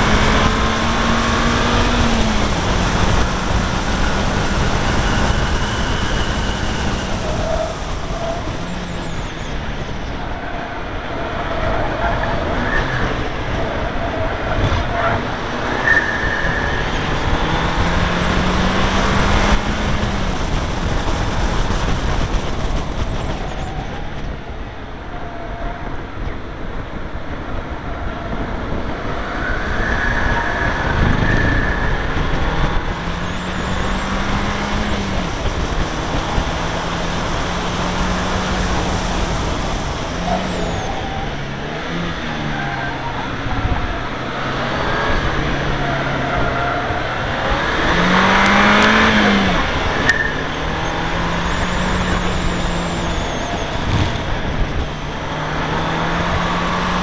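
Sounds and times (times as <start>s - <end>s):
car engine revving: 0.0s - 24.8s, 27.4s - 57.0s
wind and road noise: 0.0s - 57.0s.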